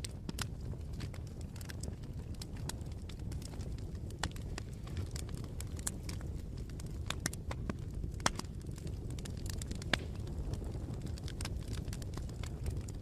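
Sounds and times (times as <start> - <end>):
bonfire low rumble: 0.0 - 13.0
burning wood crackling and popping: 0.0 - 13.0.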